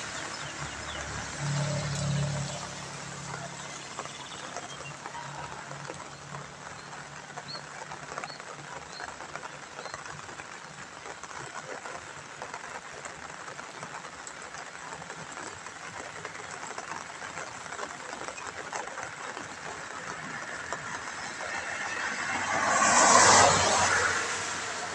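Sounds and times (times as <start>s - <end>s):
car tyres hissing on wet road: 0.0s - 24.9s
rain pattering on asphalt: 0.0s - 24.9s.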